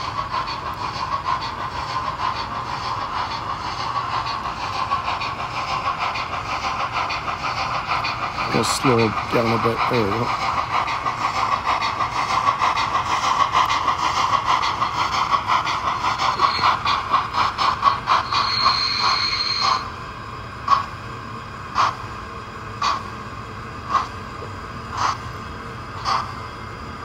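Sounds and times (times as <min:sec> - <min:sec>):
model steam locomotive chuffing: 0:00.0 - 0:27.0.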